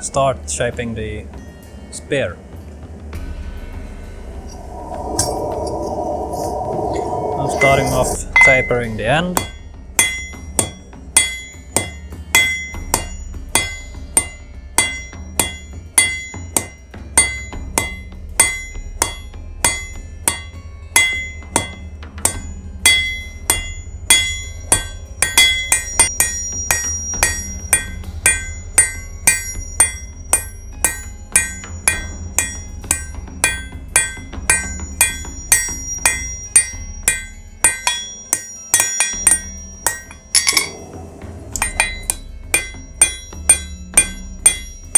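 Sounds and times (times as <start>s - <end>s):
hammer striking hot steel on anvil: 7.4s - 44.9s.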